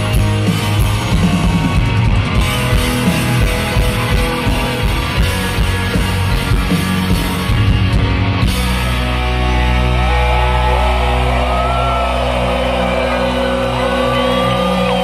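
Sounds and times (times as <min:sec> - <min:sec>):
electric guitar lead: 0:00.0 - 0:15.0
live rock band playing: 0:00.0 - 0:15.0.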